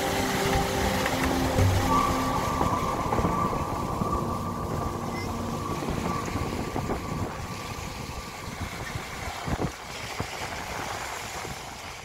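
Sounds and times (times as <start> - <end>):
small waves washing over sand: 0.0 - 12.0
wind gusting on microphone: 0.0 - 12.0.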